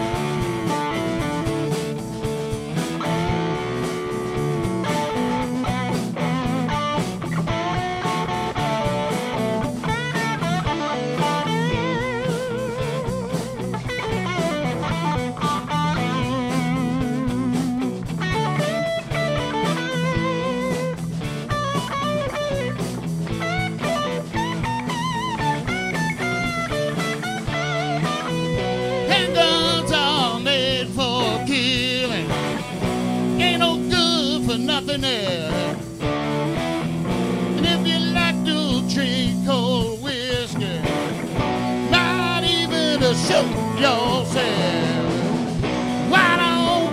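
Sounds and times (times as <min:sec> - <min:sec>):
bent electric guitar lead: 0:00.0 - 0:46.9
rock band playing: 0:00.0 - 0:46.9.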